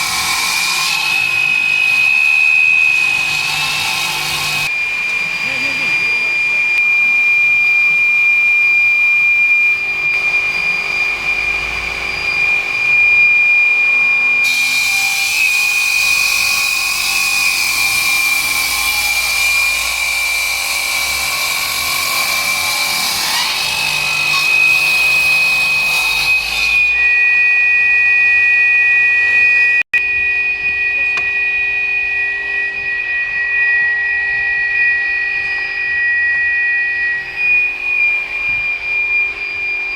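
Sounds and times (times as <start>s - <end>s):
stone-cutting saw whining: 0.0s - 39.9s.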